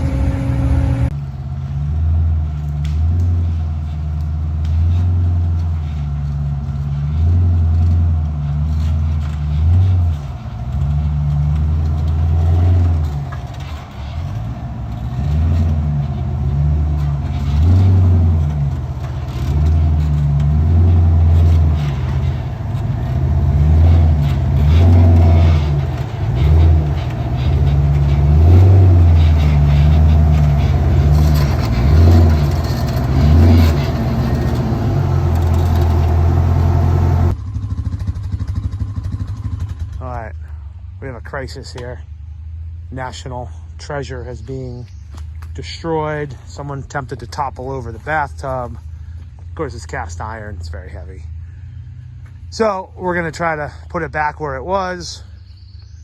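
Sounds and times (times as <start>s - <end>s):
off-road engine running: 0.0s - 56.0s.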